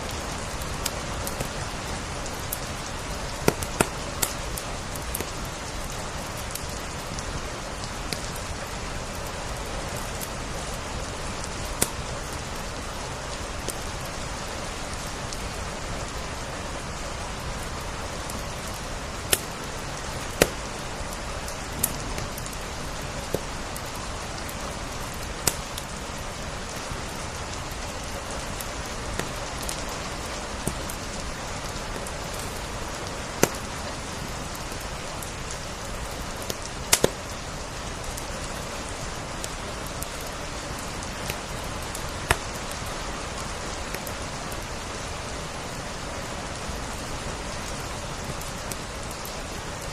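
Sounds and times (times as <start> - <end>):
wood fire crackling and popping: 0.0 - 45.8, 46.5 - 49.9
rain hiss: 0.0 - 49.9.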